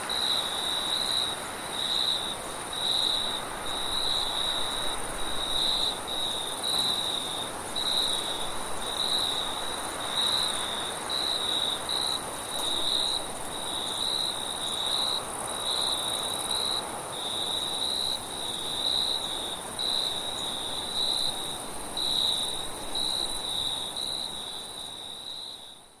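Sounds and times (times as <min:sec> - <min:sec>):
wind hiss: 0:00.0 - 0:25.9
crickets chirping in pulses: 0:00.0 - 0:26.0.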